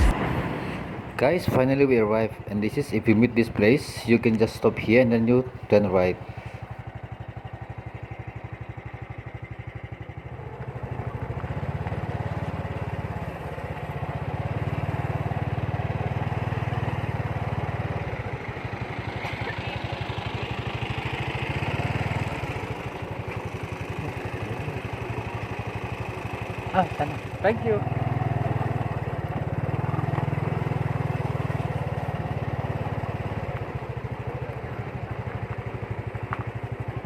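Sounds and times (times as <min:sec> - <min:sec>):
motorbike engine revving: 0:00.0 - 0:02.4, 0:06.3 - 0:37.0.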